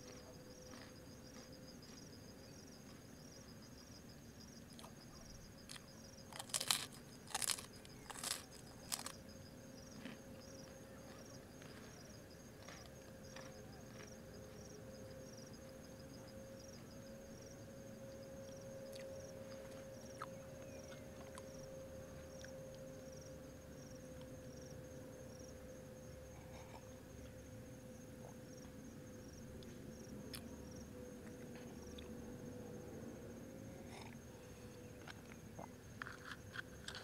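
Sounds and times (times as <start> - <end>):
close-up eating noises: 0.0 - 17.5, 18.3 - 37.0
insects chirping: 0.0 - 37.0.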